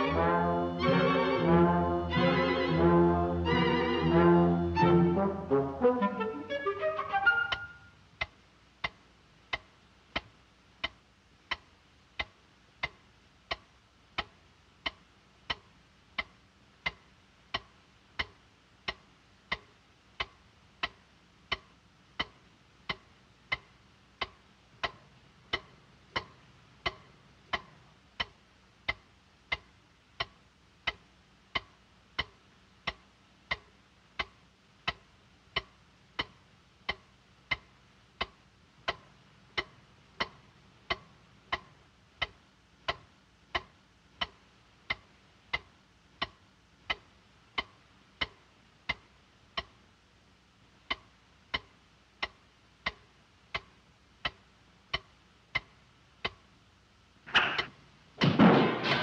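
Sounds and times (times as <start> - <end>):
clock ticking: 0.0 - 58.2.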